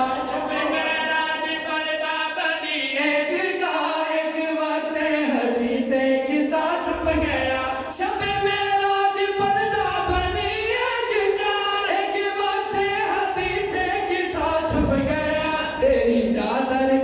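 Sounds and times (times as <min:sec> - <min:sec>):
lead voice singing: 0:00.0 - 0:17.0
men singing together: 0:00.0 - 0:17.0.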